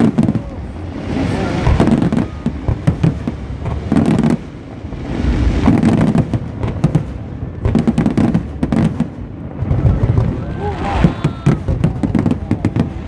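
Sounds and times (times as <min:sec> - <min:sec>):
fireworks booming and crackling: 0:00.0 - 0:13.0.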